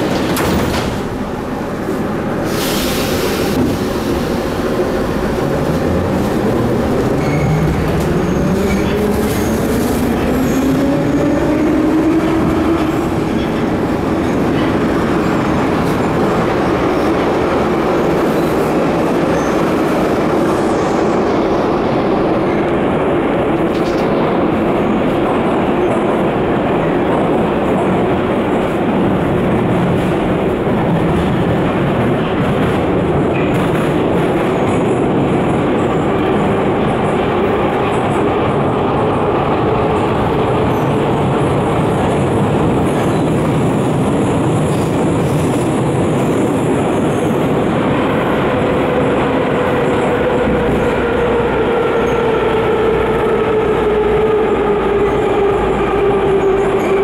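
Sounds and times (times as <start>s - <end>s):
rumble of wheels on rails: 0.0s - 57.0s.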